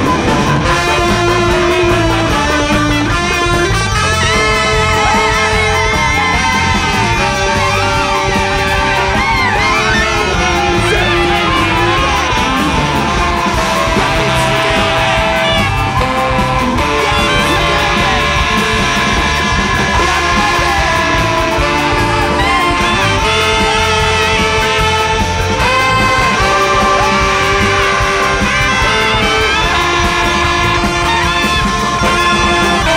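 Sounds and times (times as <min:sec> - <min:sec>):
bass: 0:00.0 - 0:32.9
big band playing free jazz: 0:00.0 - 0:32.9
drums: 0:00.0 - 0:32.9
electric guitar: 0:00.0 - 0:32.9.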